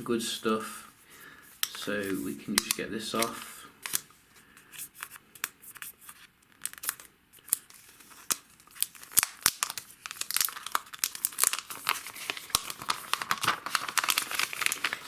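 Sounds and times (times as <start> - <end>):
plastic wrapping crinkling: 1.0 - 15.0.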